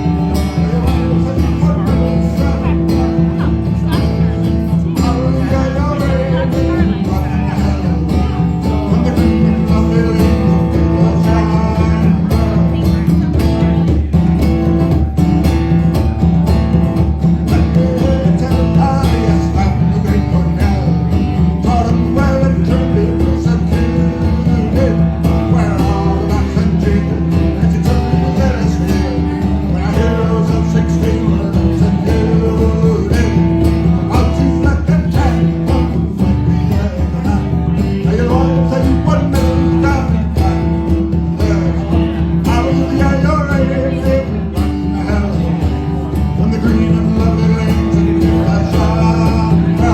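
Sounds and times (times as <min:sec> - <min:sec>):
held bass notes: 0:00.0 - 0:49.9
live band playing: 0:00.0 - 0:49.9
plucked guitar: 0:00.0 - 0:49.9.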